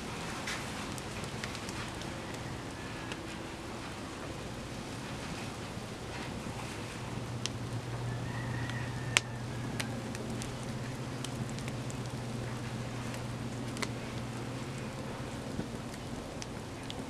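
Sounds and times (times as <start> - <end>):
flames hissing: 0.0 - 17.0
low steady hum: 0.0 - 17.0
sharp crackling pops: 0.0 - 17.0.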